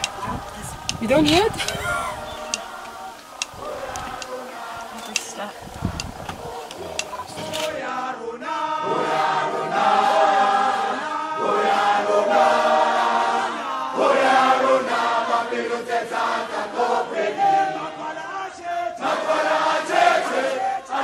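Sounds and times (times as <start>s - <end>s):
choir singing chant-like phrases: 0.0s - 21.0s.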